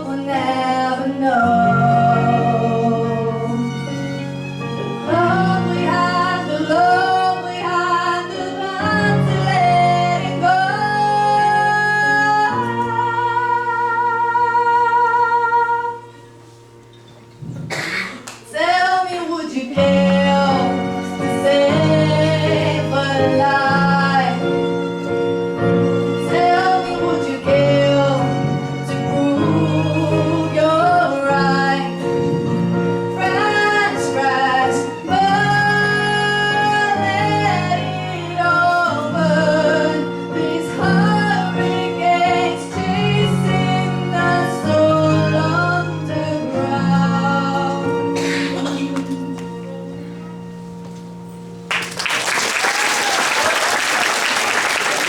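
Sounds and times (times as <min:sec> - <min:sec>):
woman singing a slow ballad: 0:00.0 - 0:03.8, 0:05.1 - 0:16.2, 0:18.5 - 0:24.6, 0:26.3 - 0:49.6
violins: 0:00.0 - 0:17.6, 0:18.3 - 0:51.4
piano chords: 0:00.0 - 0:55.0.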